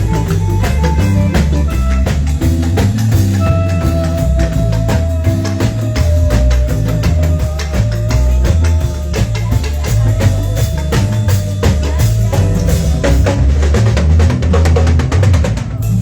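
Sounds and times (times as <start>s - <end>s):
drum kit kick and snare: 0.0s - 16.0s
heavy bass line: 0.0s - 16.0s
live band playing: 0.0s - 16.0s.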